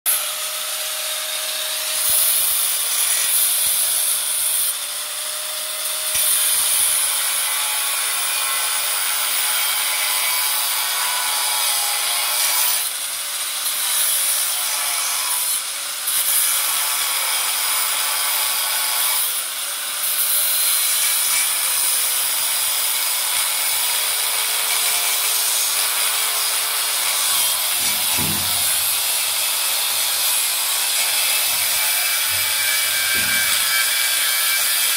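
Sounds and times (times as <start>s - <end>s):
angle grinder cutting metal: 0.1s - 34.9s.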